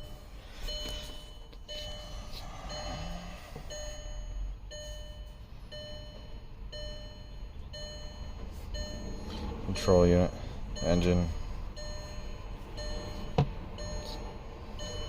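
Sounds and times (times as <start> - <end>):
car dashboard warning chime: 0.0 - 15.0.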